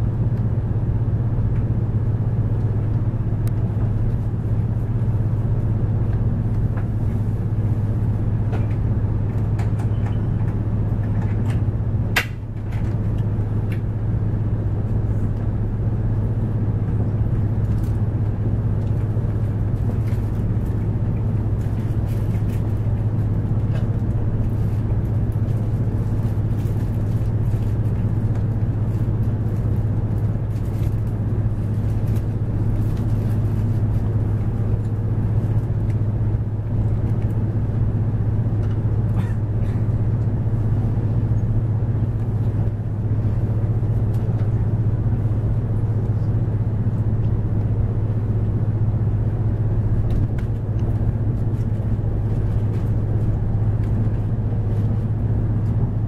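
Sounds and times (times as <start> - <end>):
train cabin hum: 0.0 - 56.0
train running gear rumble: 0.0 - 56.0.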